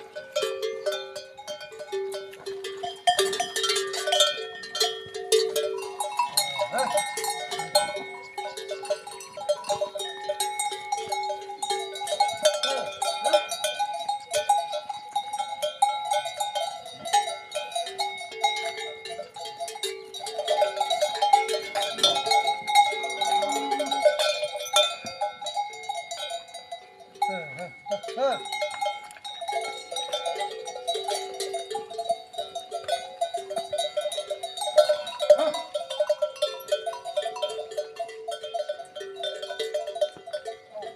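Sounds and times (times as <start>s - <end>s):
cowbells clanking: 0.0s - 40.9s.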